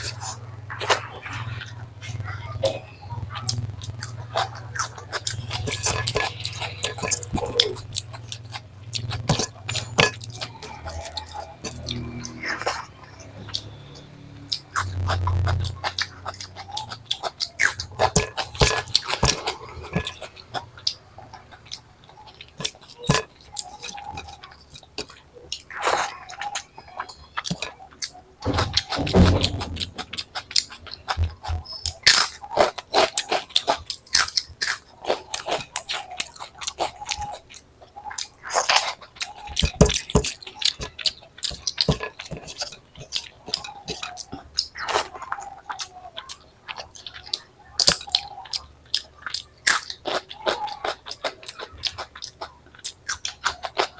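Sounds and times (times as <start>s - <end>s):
wet chewing: 0.0s - 53.9s.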